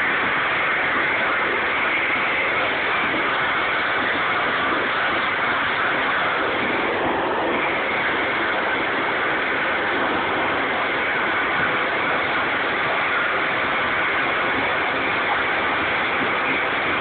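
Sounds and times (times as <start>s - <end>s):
lawn mower running: 0.0s - 17.0s.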